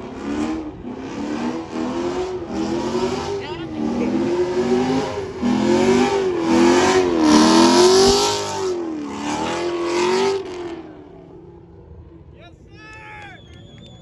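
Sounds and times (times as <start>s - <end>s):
car engine revving hard: 0.0s - 11.2s.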